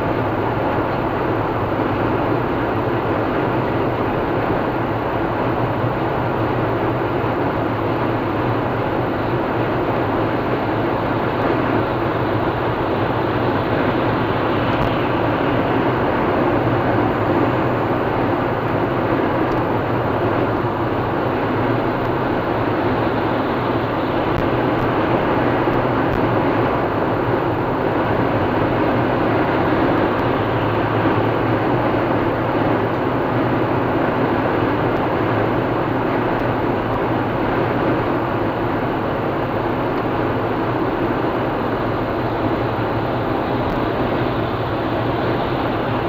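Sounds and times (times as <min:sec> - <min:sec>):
car tyre and engine noise: 0:00.0 - 0:46.0.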